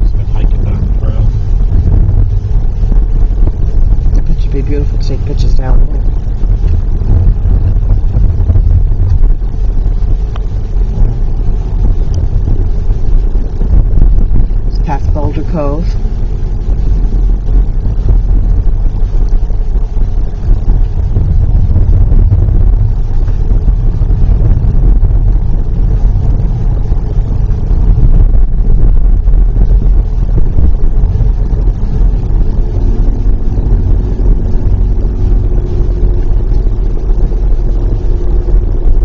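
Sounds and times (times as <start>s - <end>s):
car engine and tyre rumble: 0.0s - 39.0s
faint steady hum: 0.0s - 39.0s.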